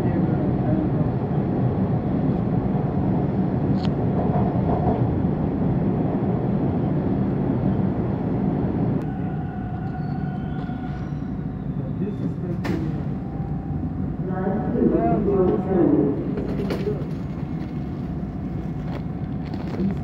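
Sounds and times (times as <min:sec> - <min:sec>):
subway train rumbling on rails: 0:00.0 - 0:20.0.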